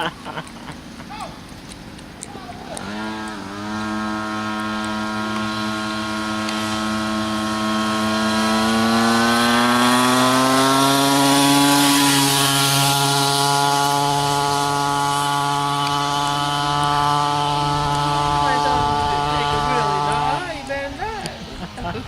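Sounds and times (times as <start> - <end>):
small motorcycle engine accelerating: 2.6 - 21.9.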